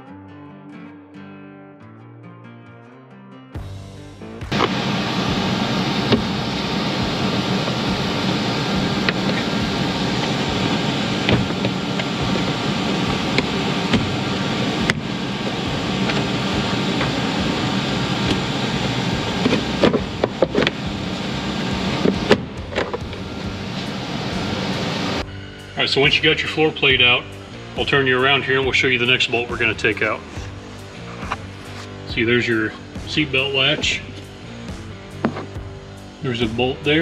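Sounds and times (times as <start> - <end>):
mechanical drone: 4.5 - 37.0.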